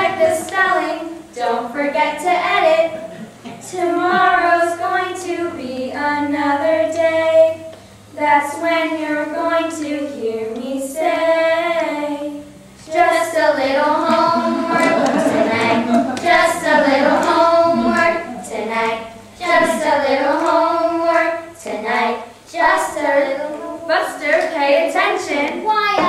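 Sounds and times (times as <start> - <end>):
high voices singing: 0.0 - 26.0.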